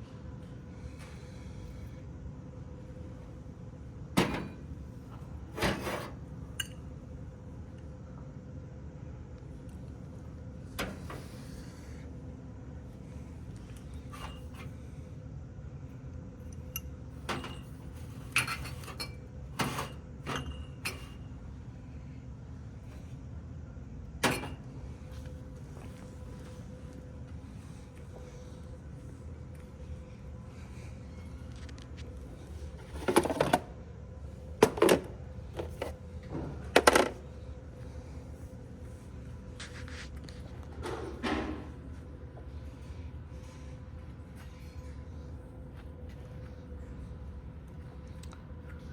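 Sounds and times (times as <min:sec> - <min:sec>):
steady low background hum: 0:00.0 - 0:48.9.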